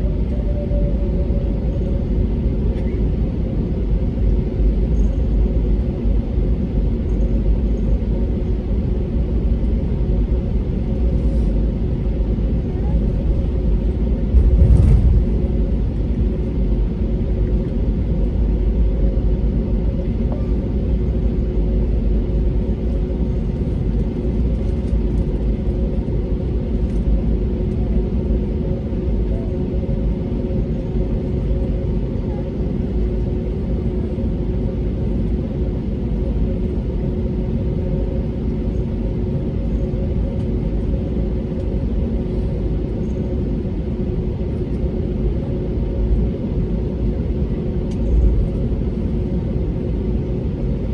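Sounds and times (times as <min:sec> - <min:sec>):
airplane cabin engine hum: 0:00.0 - 0:50.9.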